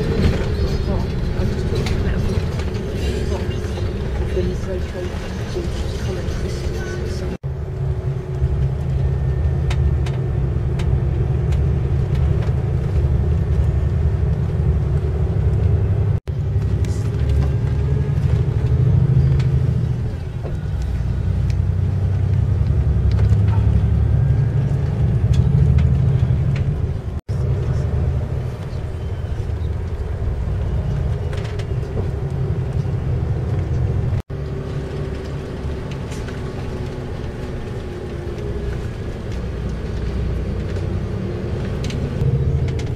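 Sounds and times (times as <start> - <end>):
bus engine and road rumble: 0.0 - 42.9.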